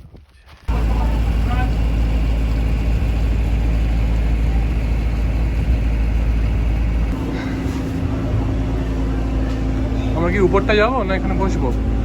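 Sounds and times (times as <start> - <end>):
boat diesel engine drone: 0.7 - 12.0
higher steady hum: 0.7 - 12.0.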